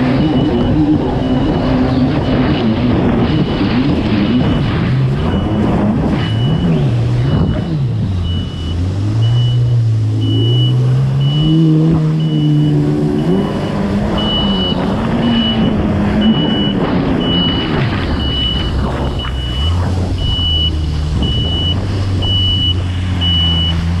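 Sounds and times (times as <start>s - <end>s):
engine revving: 0.0s - 24.0s
short high beeps: 0.2s - 2.6s, 4.3s - 23.8s.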